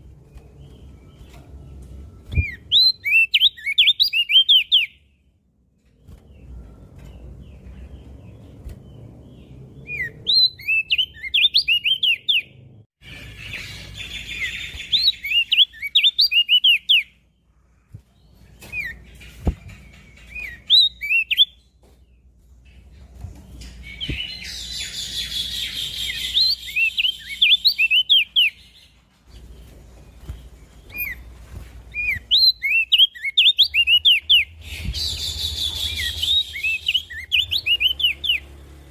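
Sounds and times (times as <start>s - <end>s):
bird singing chirpy notes: 0.1s - 5.3s, 6.0s - 22.9s, 23.5s - 31.3s, 31.9s - 38.8s.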